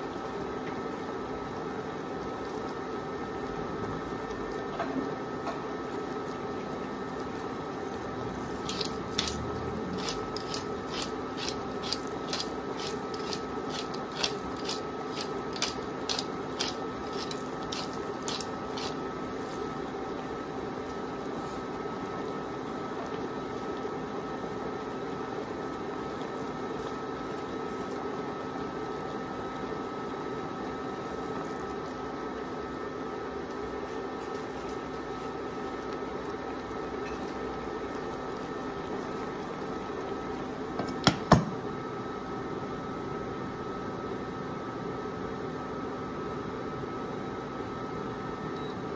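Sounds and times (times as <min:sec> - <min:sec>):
induction cooktop hum: 0:00.0 - 0:48.9.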